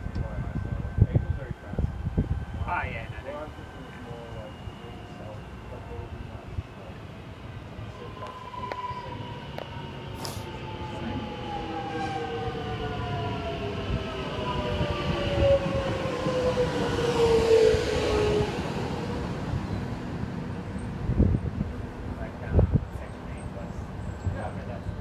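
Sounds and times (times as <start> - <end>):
low train rumble: 0.0 - 25.0
train traction motors whining: 0.0 - 25.0.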